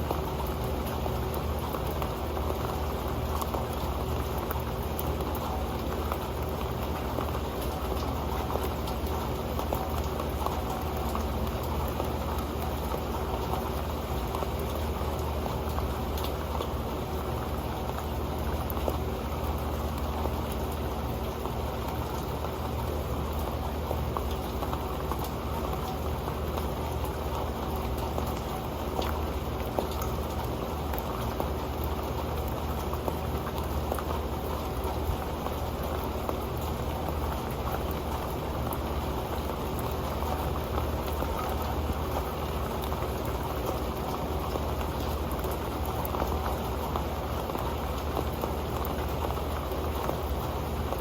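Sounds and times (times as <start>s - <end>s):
rain hiss: 0.0s - 51.0s
raindrops pattering on a pan: 0.0s - 51.0s.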